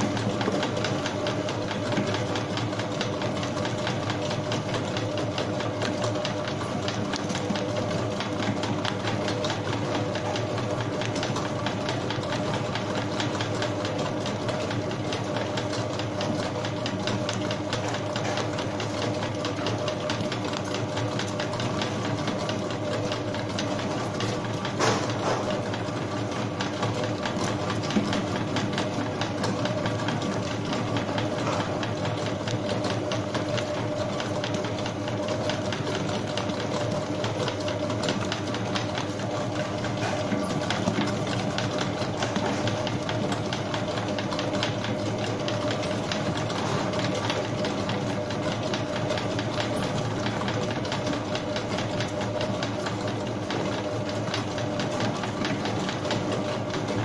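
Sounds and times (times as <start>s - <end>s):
dough mixer humming and rattling: 0.0s - 57.0s.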